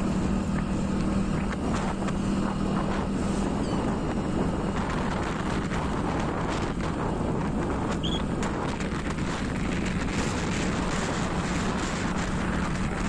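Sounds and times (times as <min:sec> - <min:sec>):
motorbike engine running: 0:00.0 - 0:13.0
wind buffeting microphone: 0:00.0 - 0:13.0.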